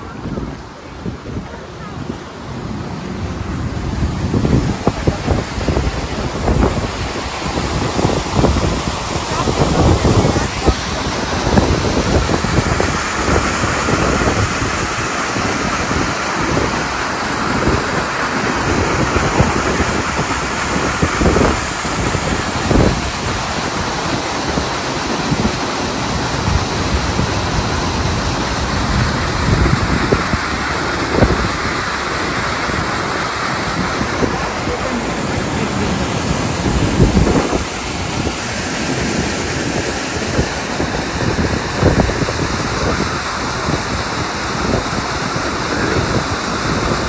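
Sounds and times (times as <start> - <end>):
paddlewheel churning water: 0.0 - 47.0
wind buffeting microphone: 0.0 - 47.0.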